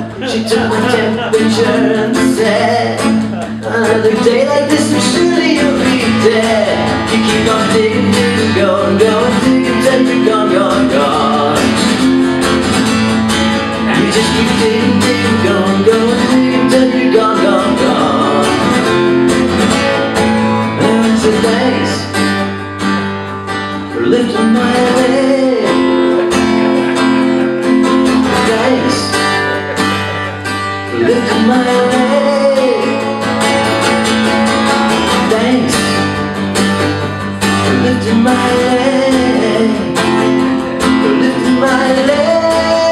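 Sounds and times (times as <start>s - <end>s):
person singing: 0.0s - 12.2s, 13.6s - 22.5s, 23.9s - 42.9s
strummed guitar: 0.0s - 42.9s.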